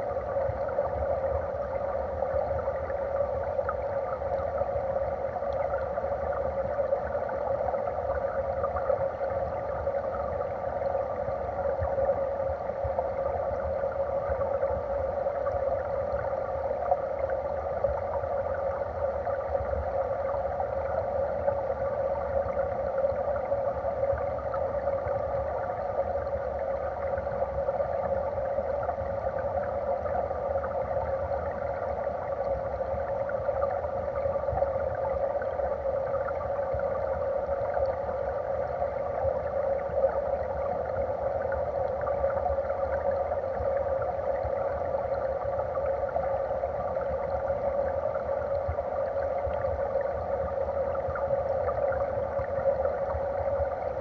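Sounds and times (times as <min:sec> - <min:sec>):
underwater stream current rushing: 0:00.0 - 0:54.0.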